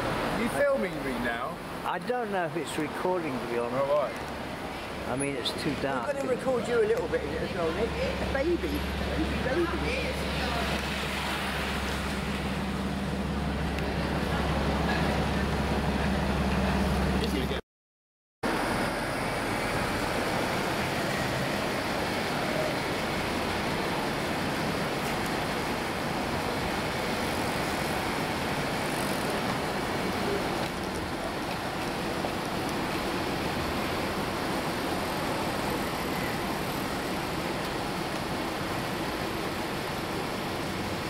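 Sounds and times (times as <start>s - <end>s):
road traffic hiss: 0.0s - 17.6s, 18.5s - 41.0s.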